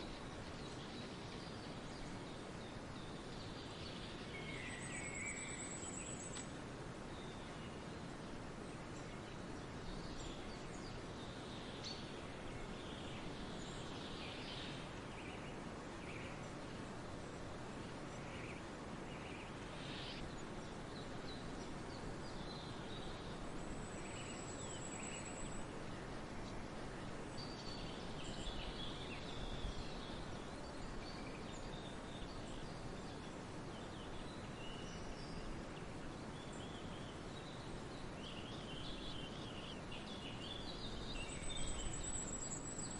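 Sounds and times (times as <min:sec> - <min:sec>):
songbirds chirping: 0:00.0 - 0:42.9
steady background hiss: 0:00.0 - 0:42.9.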